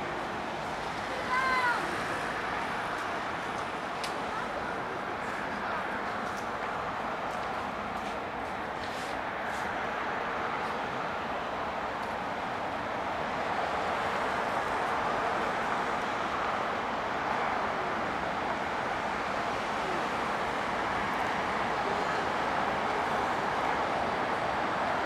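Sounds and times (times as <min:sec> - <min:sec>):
distant city road traffic hum: 0:00.0 - 0:25.0.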